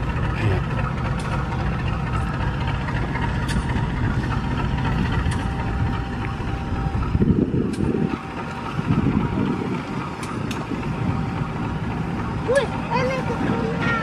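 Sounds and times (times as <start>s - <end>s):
locomotive engine low rumble: 0.0s - 14.0s.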